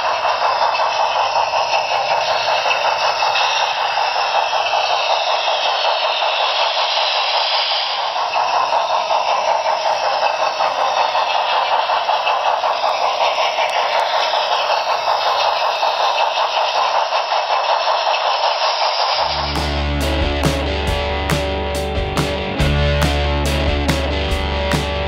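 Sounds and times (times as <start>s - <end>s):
model train steam chuffs: 0.0s - 25.0s
model train wheels clattering: 0.0s - 25.0s.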